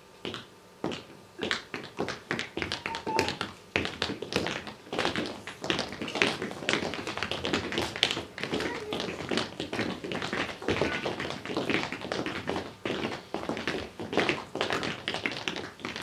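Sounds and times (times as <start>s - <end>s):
tap shoes tapping on hard floor: 0.2s - 16.0s.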